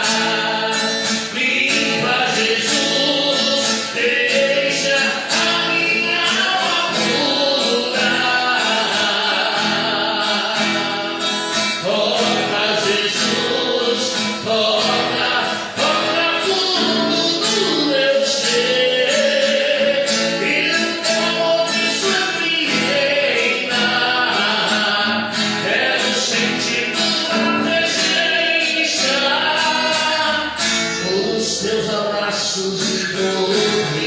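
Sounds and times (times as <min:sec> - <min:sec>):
strummed acoustic guitar: 0:00.0 - 0:34.0
voices singing: 0:00.0 - 0:34.0.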